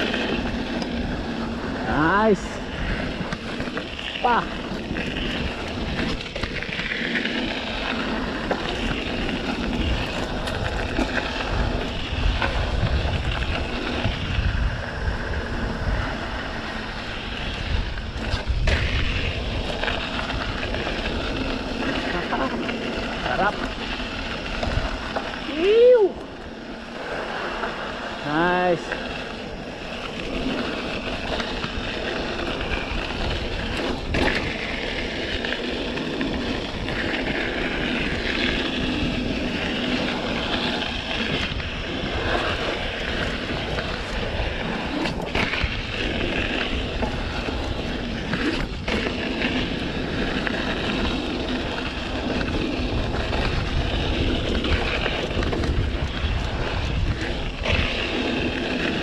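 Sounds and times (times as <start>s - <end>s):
bike tyres rolling on dirt: 0.0s - 59.0s
wind on microphone: 0.0s - 59.0s.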